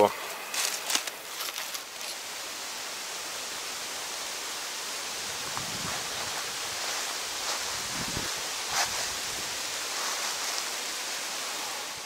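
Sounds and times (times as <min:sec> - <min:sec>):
dry fallen leaves rustling: 0:00.0 - 0:12.0
wind rustling through leaves: 0:00.0 - 0:12.0.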